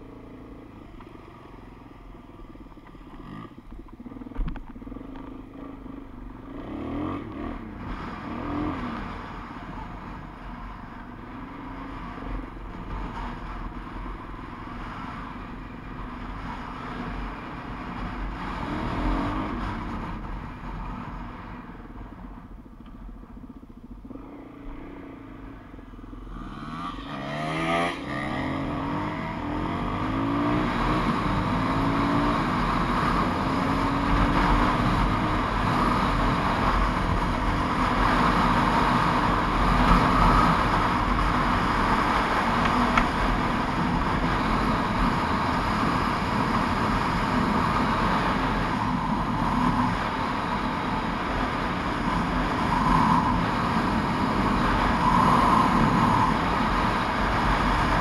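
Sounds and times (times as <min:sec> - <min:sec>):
motorcycle engine revving: 0:02.5 - 0:15.4, 0:23.4 - 0:58.0.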